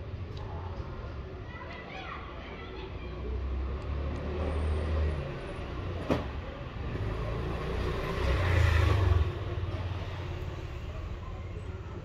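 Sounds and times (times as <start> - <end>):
low rumble of street noise: 0.0 - 12.0.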